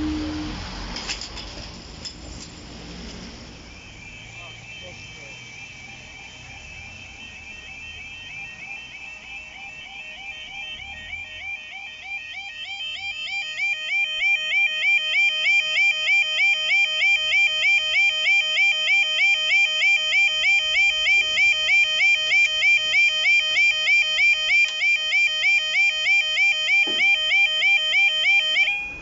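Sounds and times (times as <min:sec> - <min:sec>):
level crossing alarm warbling: 0:03.6 - 0:29.0.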